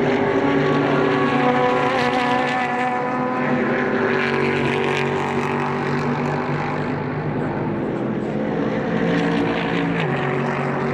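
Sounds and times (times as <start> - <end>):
race car engines running hard: 0.0 - 10.9.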